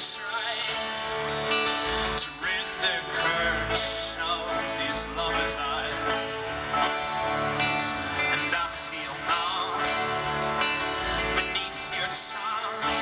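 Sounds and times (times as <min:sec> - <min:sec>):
live band music: 0:00.0 - 0:13.0
strummed guitar: 0:00.0 - 0:13.0.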